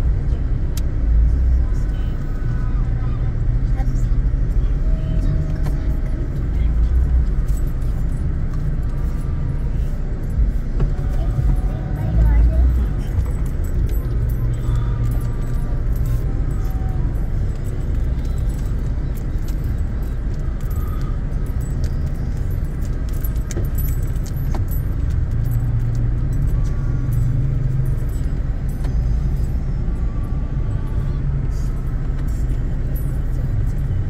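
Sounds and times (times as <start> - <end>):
car rumbling in traffic: 0.0 - 34.0
light jingling: 3.9 - 34.0.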